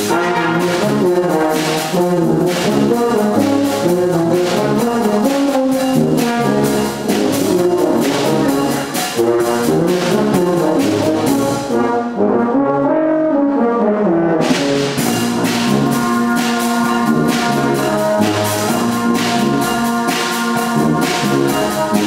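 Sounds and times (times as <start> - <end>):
brass band playing chords: 0.0 - 22.0.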